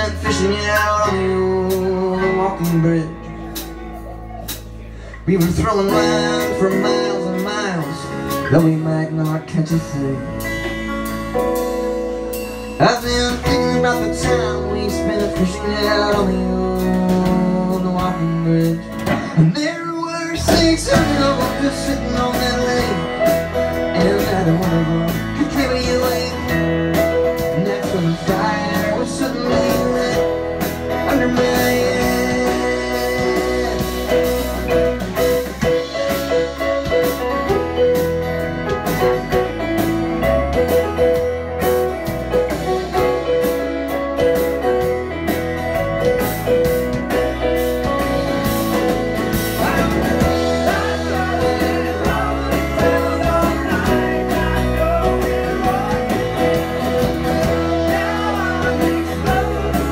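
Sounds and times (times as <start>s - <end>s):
electric and acoustic guitars: 0.0s - 59.9s
electric bass: 0.0s - 59.9s
keyboard: 0.0s - 59.9s
drum kit beat: 3.5s - 9.4s, 10.4s - 59.9s.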